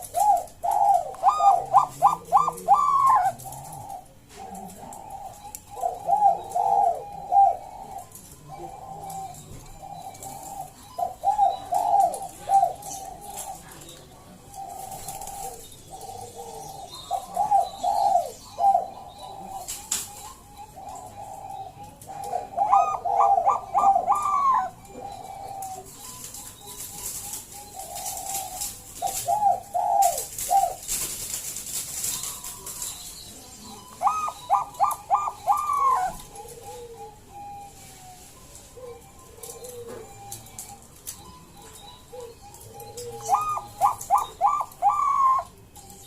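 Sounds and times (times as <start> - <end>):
dove cooing: 0.0 - 46.0.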